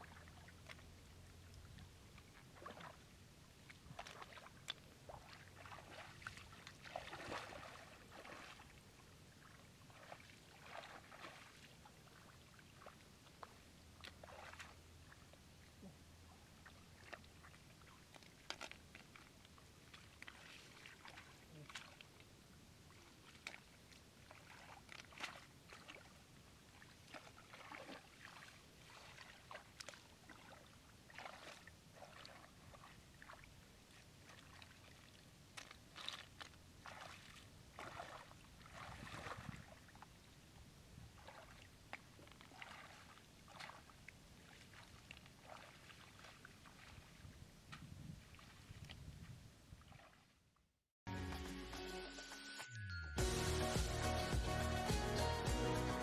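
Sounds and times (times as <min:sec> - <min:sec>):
floodwater splashing: 0:00.0 - 0:40.4, 0:41.1 - 0:50.4.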